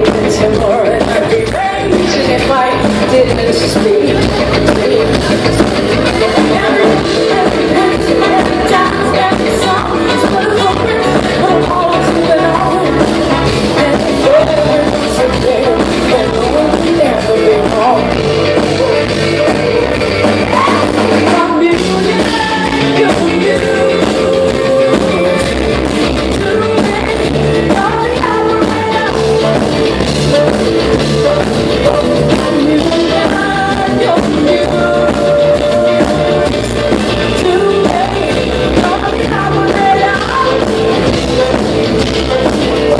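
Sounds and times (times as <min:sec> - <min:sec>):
live rock band playing: 0:00.0 - 0:42.9
woman singing: 0:00.0 - 0:42.9.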